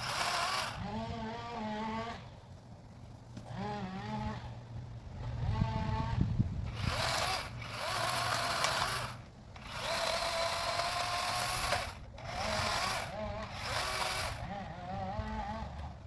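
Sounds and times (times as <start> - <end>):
electric chainsaw cutting wood: 0.0 - 2.4, 3.4 - 4.6, 5.2 - 16.0.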